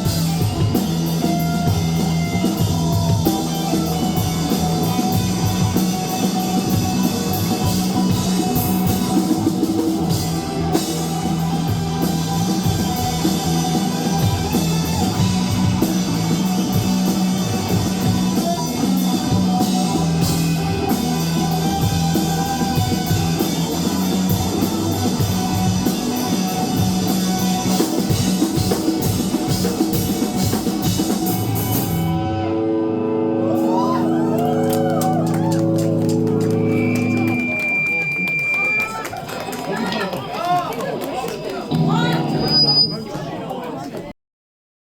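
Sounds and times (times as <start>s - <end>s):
bass guitar: 0.0s - 38.8s, 41.7s - 42.9s
drum kit: 0.0s - 38.9s
electric guitar: 0.0s - 39.2s.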